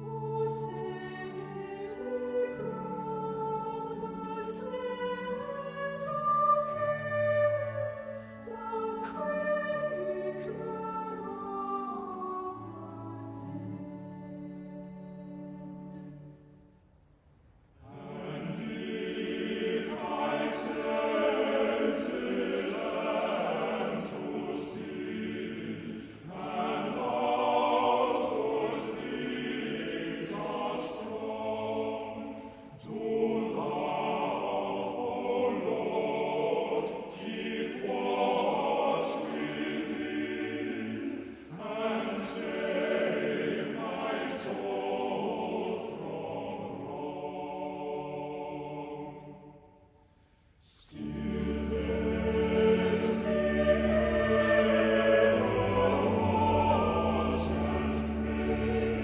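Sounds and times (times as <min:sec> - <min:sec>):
choir singing slowly: 0:00.0 - 0:16.9, 0:17.7 - 0:59.0.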